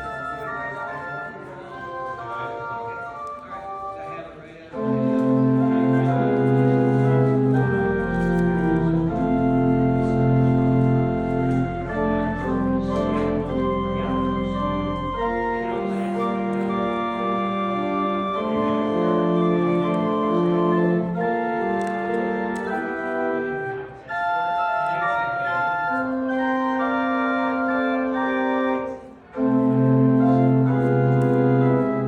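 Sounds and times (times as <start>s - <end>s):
organ playing chords: 0.0s - 32.0s.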